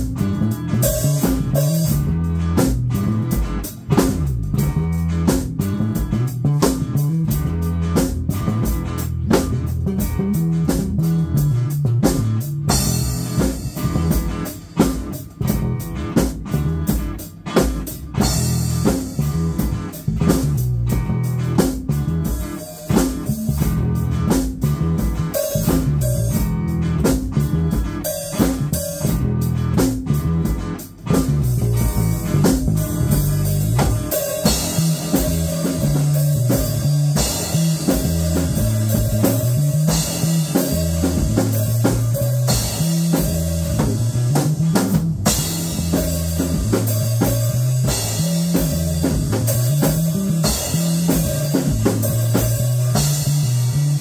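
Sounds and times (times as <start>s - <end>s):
drums and cymbals: 0.0s - 54.0s
funk bass line: 0.0s - 54.0s.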